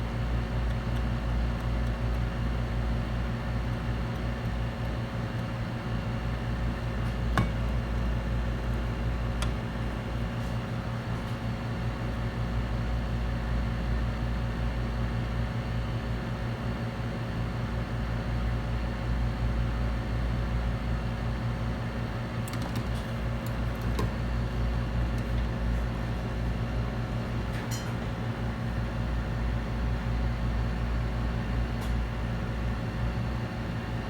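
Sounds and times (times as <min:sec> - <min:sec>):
fan running with hum and hiss: 0:00.0 - 0:34.0.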